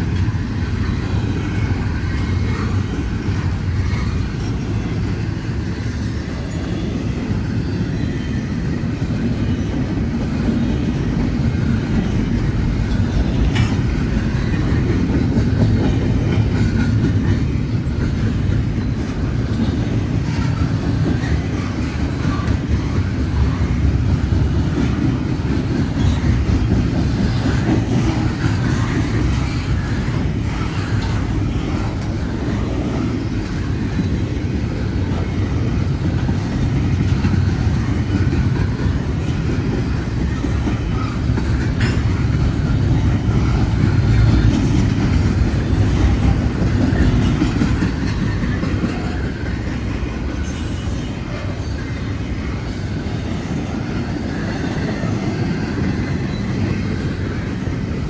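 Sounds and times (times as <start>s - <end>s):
freight train cars rumbling: 0.0s - 58.0s.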